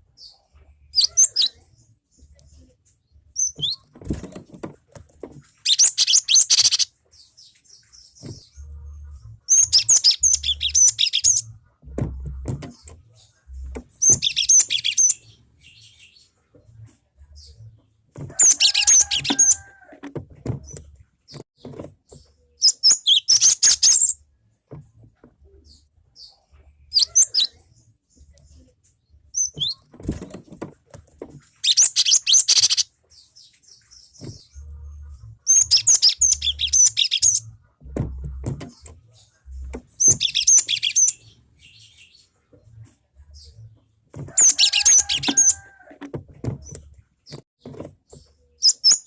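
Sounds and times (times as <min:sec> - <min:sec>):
bird chirping song: 0:00.0 - 0:49.0.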